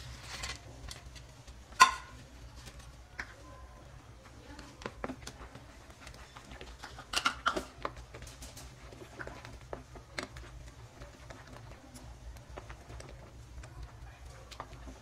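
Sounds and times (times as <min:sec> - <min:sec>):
spatula stirring in pan: 0:00.0 - 0:15.0.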